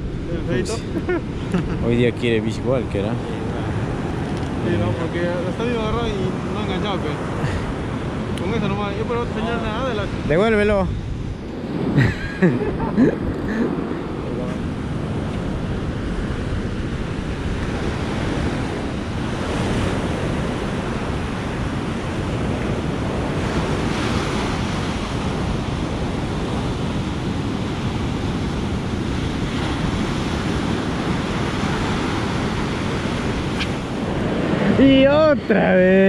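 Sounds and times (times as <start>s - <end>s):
ocean surf breaking: 0.0s - 36.0s
wind rumbling on microphone: 0.0s - 36.0s.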